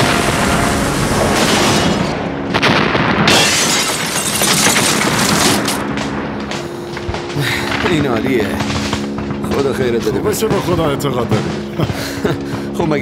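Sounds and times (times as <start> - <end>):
explosions booming: 0.0 - 13.0
heavy impacts: 0.0 - 13.0
debris shattering: 1.2 - 12.6.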